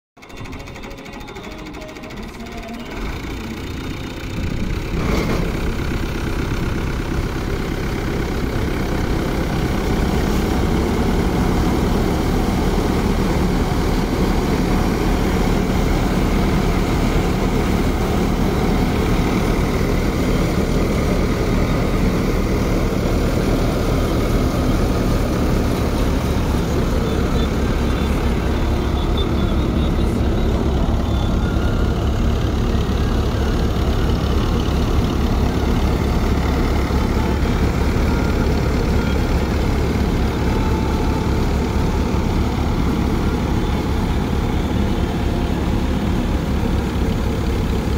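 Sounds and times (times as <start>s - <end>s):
tractor diesel engine and thresher din: 0.2s - 47.9s.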